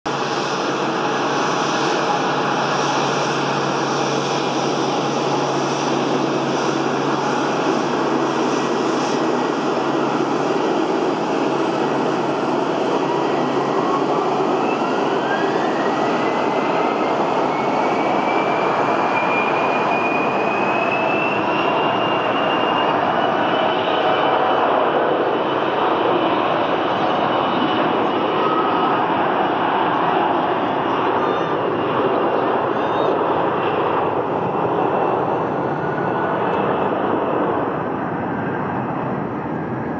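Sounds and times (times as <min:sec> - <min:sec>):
jet engines whining: 0:00.1 - 0:39.9.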